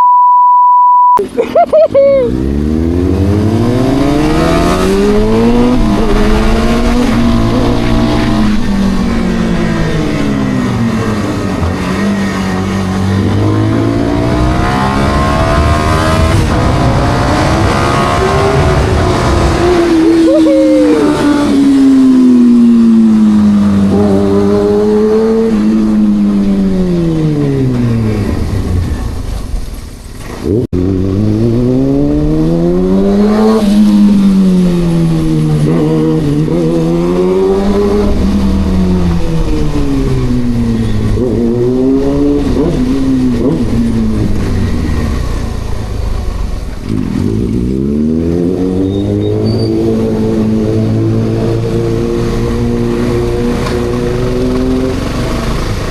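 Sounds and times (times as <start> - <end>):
motorcycle engine revving: 2.3 - 29.1, 30.4 - 55.9.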